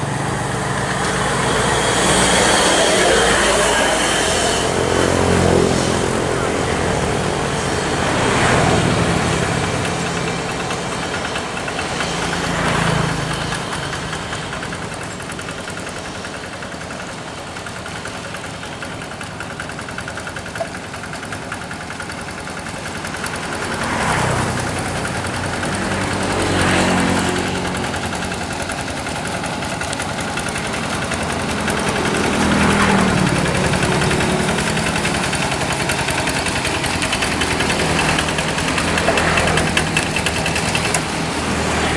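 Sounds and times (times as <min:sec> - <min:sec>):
diesel engine knocking: 0:00.0 - 0:41.9.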